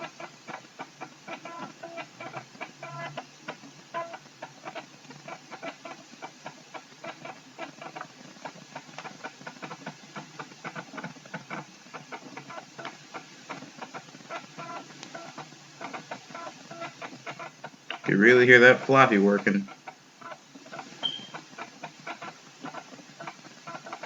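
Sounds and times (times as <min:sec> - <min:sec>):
floppy drive clicking and buzzing: 0:00.0 - 0:24.0.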